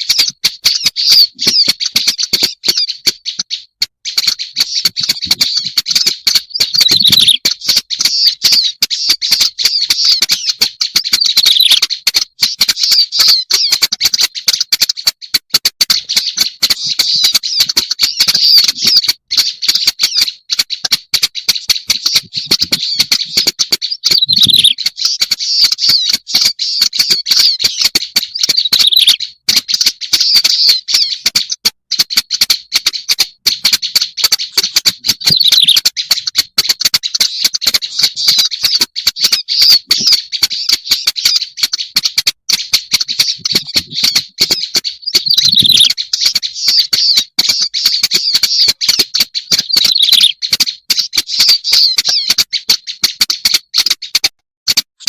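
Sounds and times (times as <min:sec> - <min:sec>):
bird song scratchy chatter: 0:00.0 - 0:55.0.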